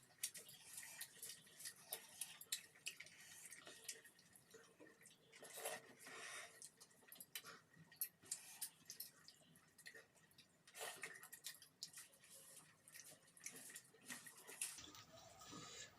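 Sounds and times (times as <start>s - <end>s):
wet chewing sounds: 0.0s - 15.9s.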